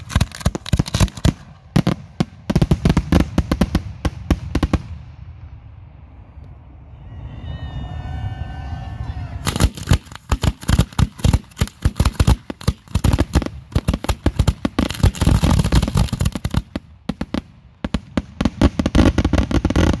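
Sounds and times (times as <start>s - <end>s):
fireworks bangs and crackling: 0.0s - 5.7s, 9.4s - 20.0s.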